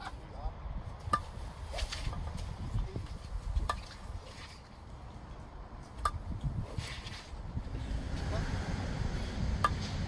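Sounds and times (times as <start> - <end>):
wind rumble on microphone: 0.2 - 10.0.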